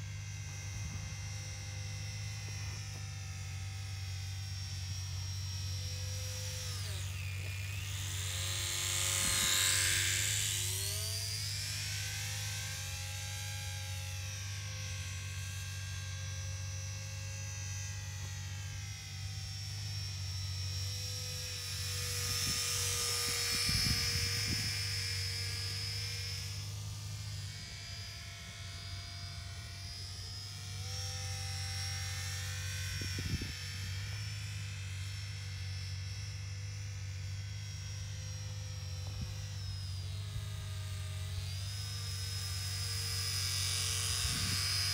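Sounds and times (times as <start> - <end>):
model plane propeller whining: 0.0 - 44.9
steady low hum: 0.0 - 44.9.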